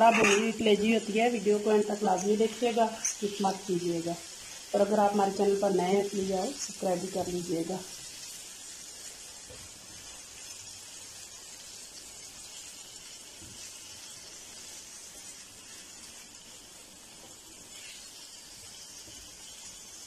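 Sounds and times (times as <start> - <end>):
liver sizzling in hot oil: 0.0 - 20.0.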